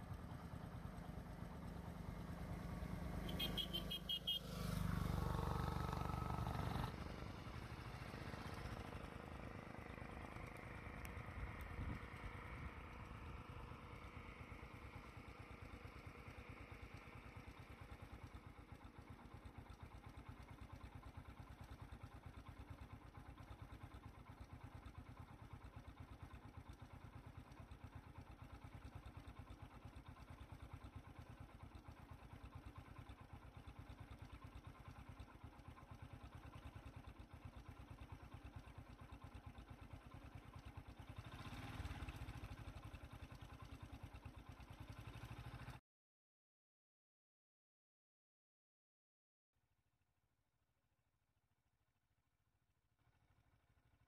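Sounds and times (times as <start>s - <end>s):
auto-rickshaw engine passing: 0.0s - 45.8s
low engine puttering: 0.0s - 45.8s.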